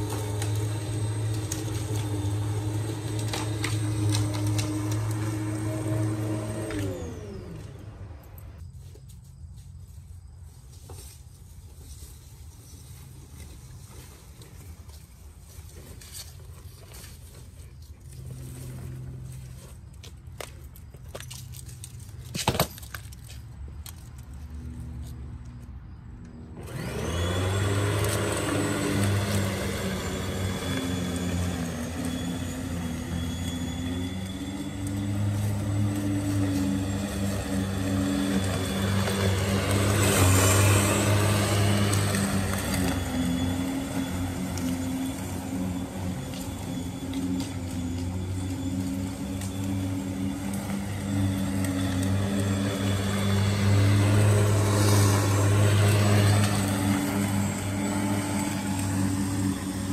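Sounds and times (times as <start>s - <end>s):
electric lawn mower humming: 0.0s - 8.9s, 9.8s - 23.0s, 23.6s - 59.9s.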